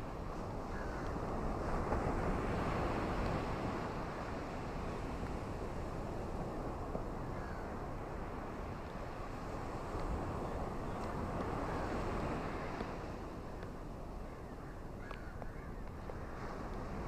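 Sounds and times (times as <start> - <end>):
ocean surf washing on shore: 0.0 - 17.0
wind: 0.0 - 17.0.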